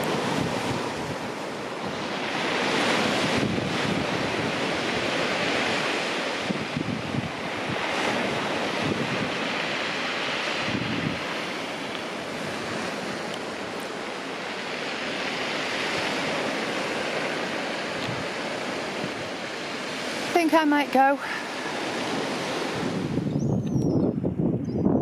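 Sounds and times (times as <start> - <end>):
waves breaking on pebble beach: 0.0 - 23.3
wind gusting on microphone: 0.0 - 25.0.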